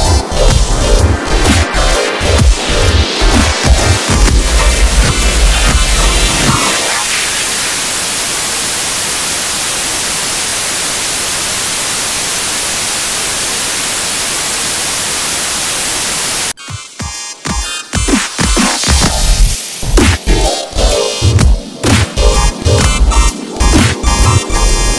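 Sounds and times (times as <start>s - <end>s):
loud static hiss: 0.0s - 16.6s, 18.4s - 24.9s
electronic dance music: 0.0s - 24.9s.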